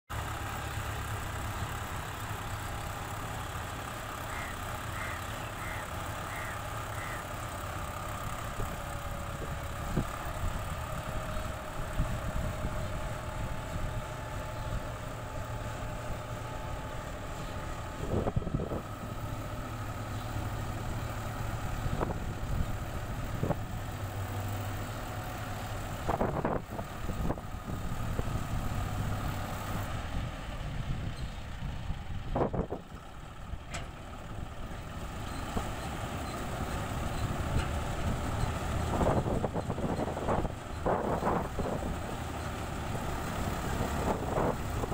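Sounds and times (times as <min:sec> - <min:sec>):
combine harvester running: 0:00.1 - 0:44.9.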